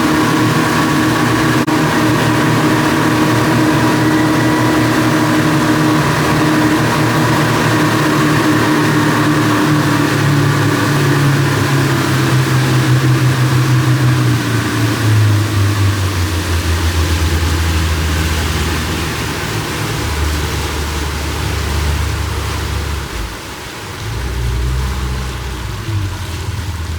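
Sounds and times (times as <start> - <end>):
speedboat engine slowing: 0.0 - 26.9.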